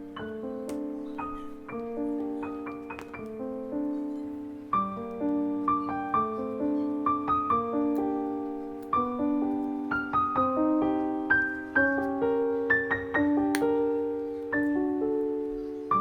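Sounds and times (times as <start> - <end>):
gentle solo piano melody: 0.0 - 16.0.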